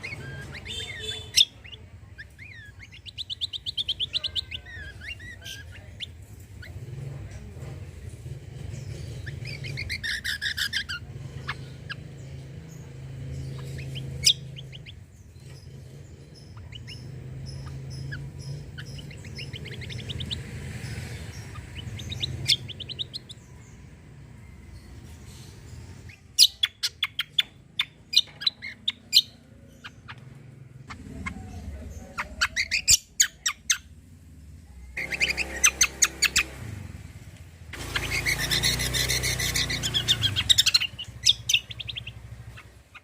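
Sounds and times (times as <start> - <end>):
songbird trilling and chirping: 0.0 - 36.7, 37.7 - 43.0.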